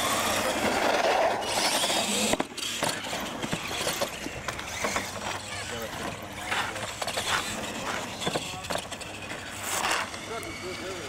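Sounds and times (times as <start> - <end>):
radio-controlled trucks racing: 0.0 - 11.0.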